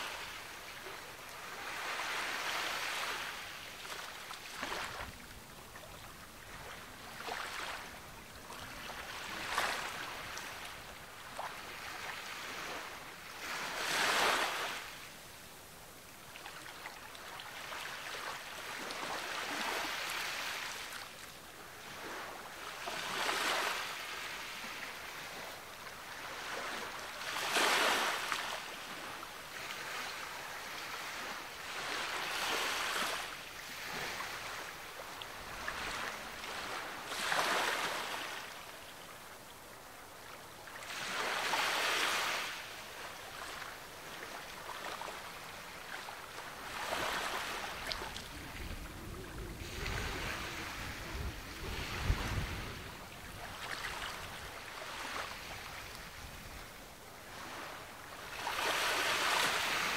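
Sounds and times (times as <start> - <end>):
sea waves breaking on beach: 0.0 - 5.5, 6.4 - 15.1, 17.4 - 21.0, 21.8 - 38.7, 40.7 - 59.9.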